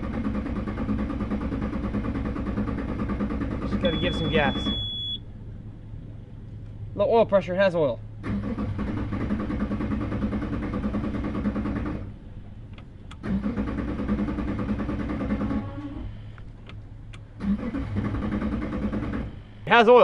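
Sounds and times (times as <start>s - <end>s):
outboard engine cranking: 0.0s - 4.8s, 8.2s - 19.6s.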